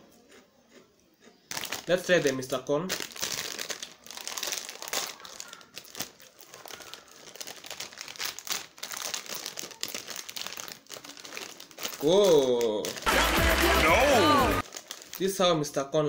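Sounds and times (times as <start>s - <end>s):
plastic snack packet crinkling: 1.5s - 15.6s.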